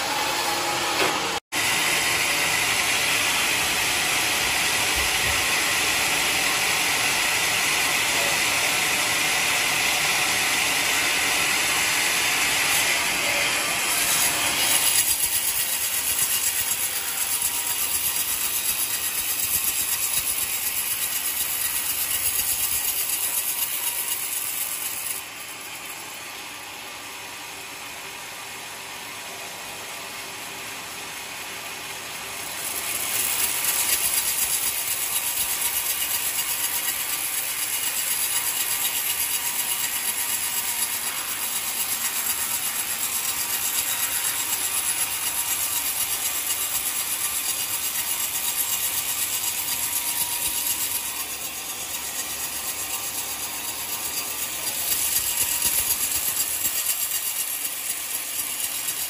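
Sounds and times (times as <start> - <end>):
band sawmill sawing log: 0.0 - 59.0.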